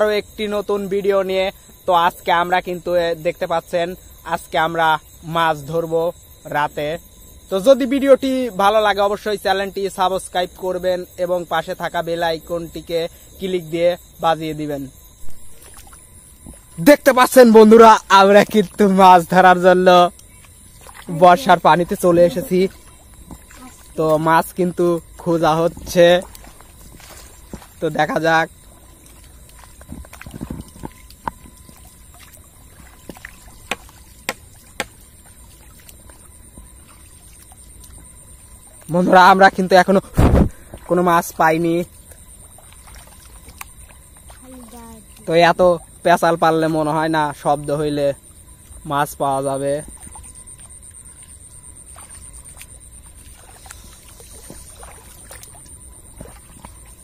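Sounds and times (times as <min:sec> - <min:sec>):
small water splashes and drips: 0:00.0 - 0:57.0
wading through shallow water: 0:00.0 - 0:57.0.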